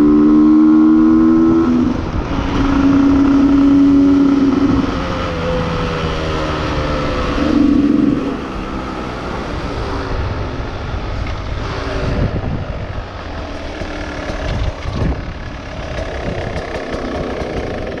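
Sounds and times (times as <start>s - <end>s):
motorcycle engine at low revs: 0.0s - 18.0s.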